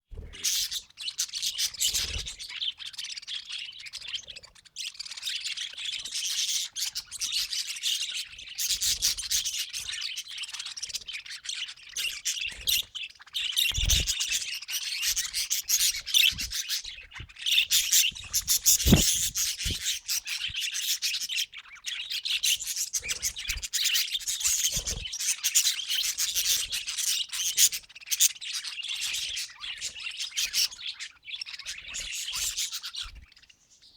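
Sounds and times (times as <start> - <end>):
budgerigars chattering and warbling: 0.2 - 33.9.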